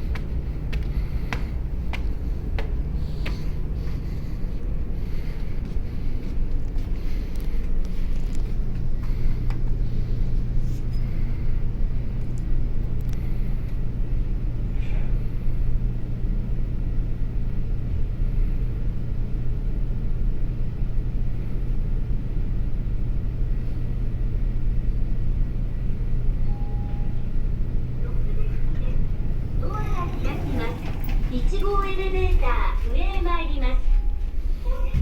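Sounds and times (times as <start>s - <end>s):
ferry engines droning: 0.0s - 35.0s.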